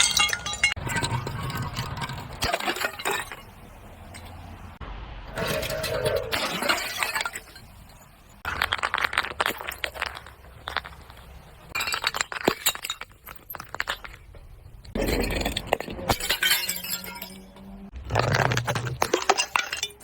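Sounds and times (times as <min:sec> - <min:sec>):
glass crushing and breaking: 0:00.0 - 0:04.7, 0:05.4 - 0:20.0.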